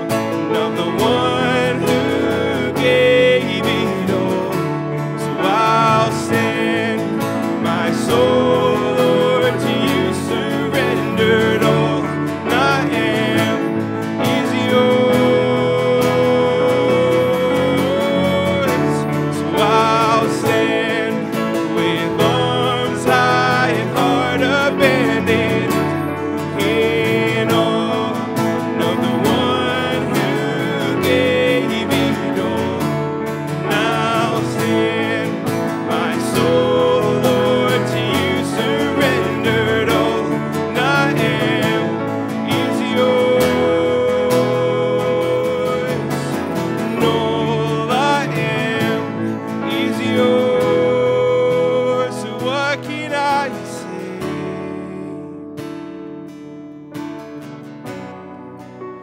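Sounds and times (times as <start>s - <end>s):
man singing a hymn: 0.0s - 55.6s
keyboard piano chords: 0.0s - 59.0s
strummed acoustic guitar: 0.0s - 59.0s.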